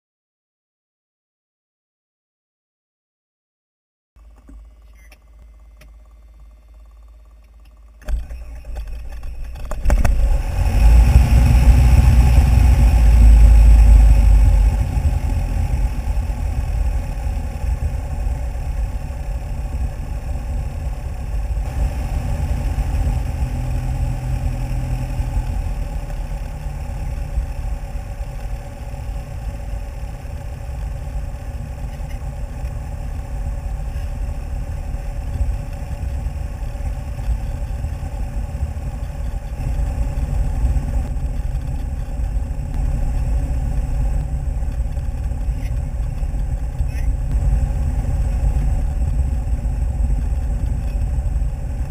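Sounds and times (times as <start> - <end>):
aircraft piston engine running: 4.2 - 51.9.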